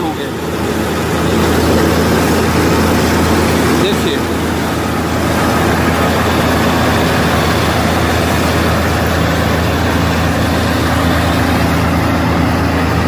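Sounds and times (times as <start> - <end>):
combine harvester engine drone: 0.0 - 13.0
harvester cutting and threshing machinery: 0.0 - 13.0.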